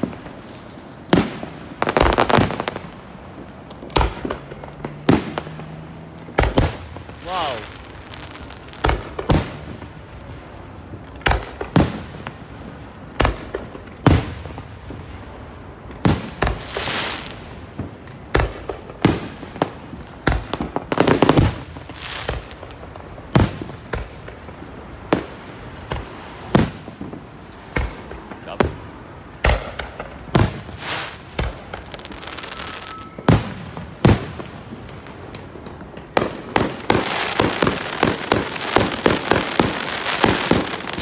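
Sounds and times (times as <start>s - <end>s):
fireworks bursting bangs: 0.0s - 41.0s.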